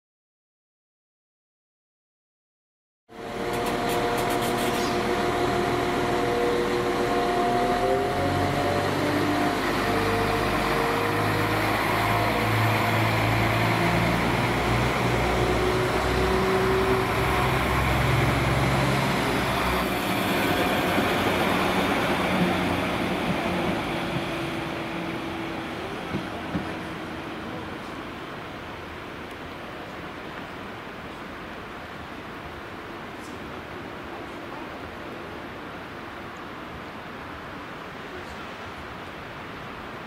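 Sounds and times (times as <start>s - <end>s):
diesel train engine drone: 3.1s - 38.0s
wheel and rail noise: 3.2s - 40.0s.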